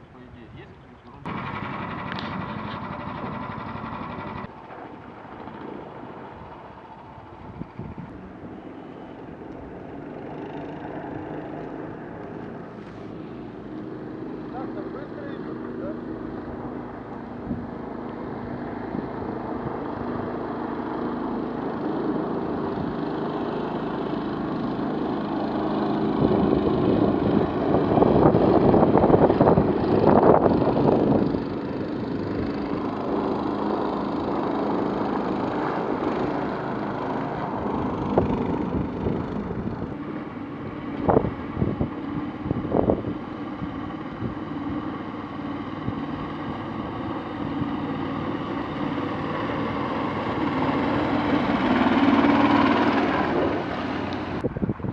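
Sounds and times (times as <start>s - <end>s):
boat motor running: 1.1s - 54.5s.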